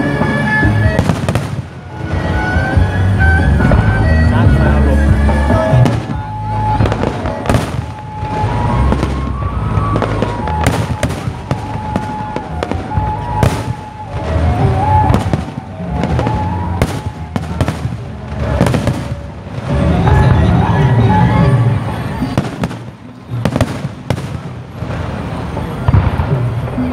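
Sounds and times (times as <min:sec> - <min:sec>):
fireworks bangs and crackling: 0:00.0 - 0:26.9
music playing: 0:00.0 - 0:26.9.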